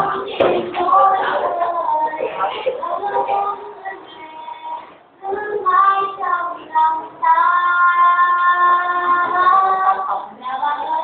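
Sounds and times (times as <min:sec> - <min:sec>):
girl singing: 0:00.0 - 0:11.0.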